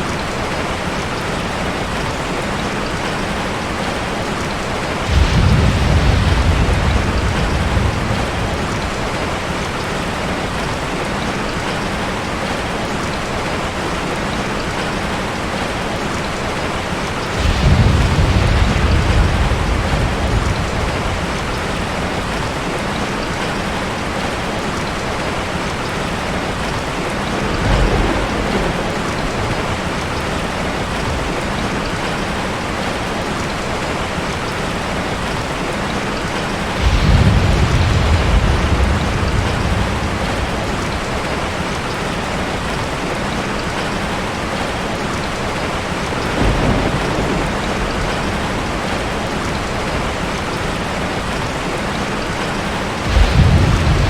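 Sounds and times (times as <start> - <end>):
steady rain: 0.0 - 54.0
thunder rumbling: 4.5 - 11.7, 13.6 - 24.4, 25.1 - 34.6, 35.9 - 54.0.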